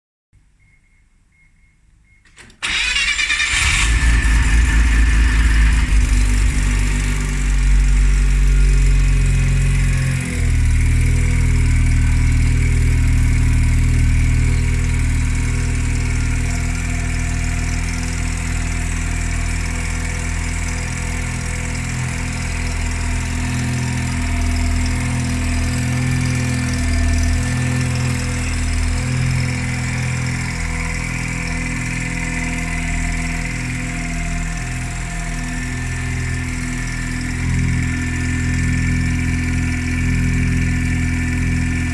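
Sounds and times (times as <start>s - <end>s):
rotary engine starting and idling: 2.3s - 41.9s.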